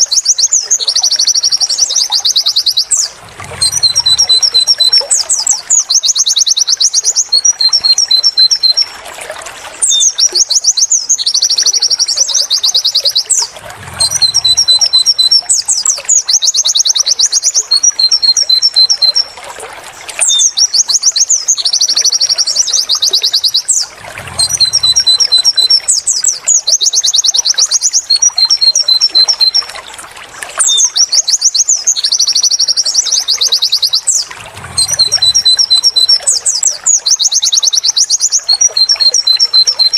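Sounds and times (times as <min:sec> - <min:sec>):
bird singing high chirps and trills: 0:00.0 - 0:08.9, 0:09.7 - 0:19.5, 0:20.1 - 0:30.0, 0:30.6 - 0:39.9.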